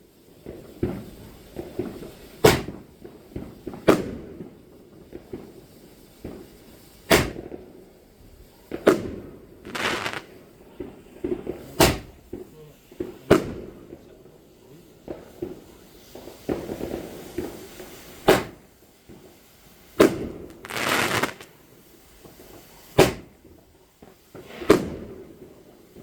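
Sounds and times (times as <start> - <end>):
fireworks bangs: 0.0 - 26.0
fireworks hissing crackle: 0.0 - 26.0.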